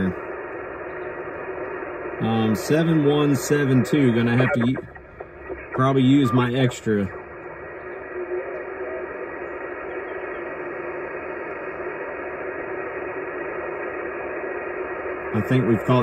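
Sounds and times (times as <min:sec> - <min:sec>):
faint steady tones: 0:00.0 - 0:16.0
radio static hiss: 0:00.0 - 0:16.0.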